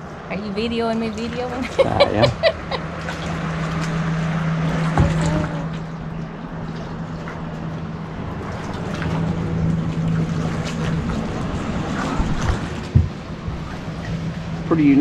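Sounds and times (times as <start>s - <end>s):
water rushing along hull: 0.0s - 15.0s.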